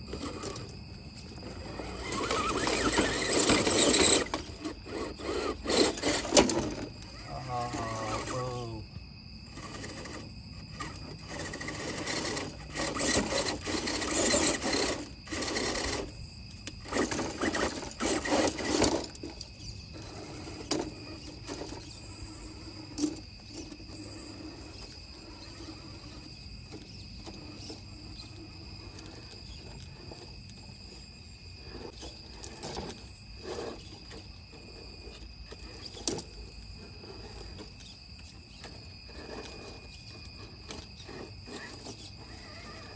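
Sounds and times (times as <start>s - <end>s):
crickets trilling: 0.0s - 42.9s
rc car motor and tyres on stone: 0.0s - 42.9s.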